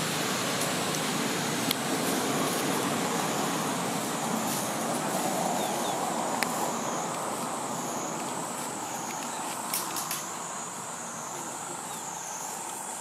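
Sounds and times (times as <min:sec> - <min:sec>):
road traffic noise: 0:00.0 - 0:13.0
vehicle passing: 0:00.0 - 0:13.0.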